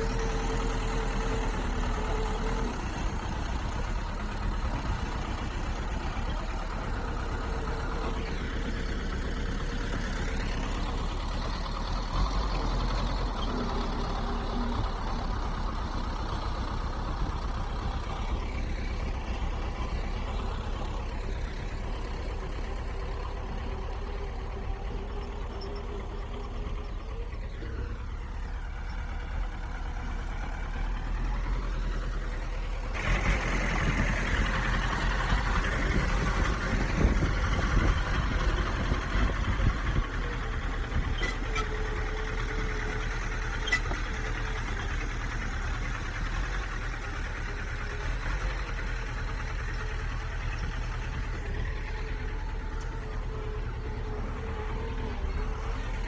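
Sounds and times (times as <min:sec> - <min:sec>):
bulldozer diesel engine running: 0:00.0 - 0:56.0
engine knocking: 0:00.0 - 0:56.0.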